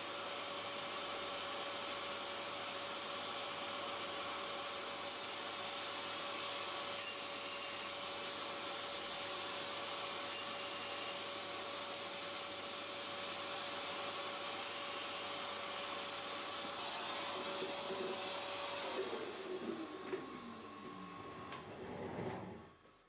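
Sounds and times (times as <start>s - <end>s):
grinder motor whine: 3.8s - 22.4s.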